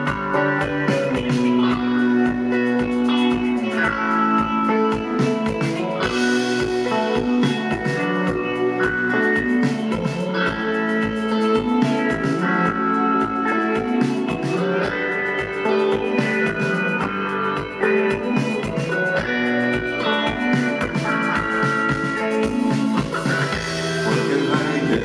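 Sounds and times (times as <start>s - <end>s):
electric guitars: 0.0s - 25.0s
steady drum beat: 0.0s - 25.0s.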